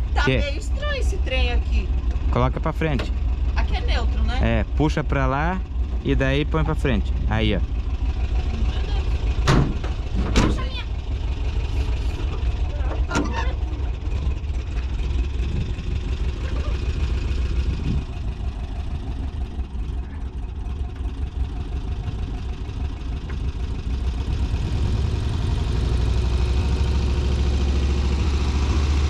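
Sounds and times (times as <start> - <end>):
car engine humming: 0.0 - 29.0.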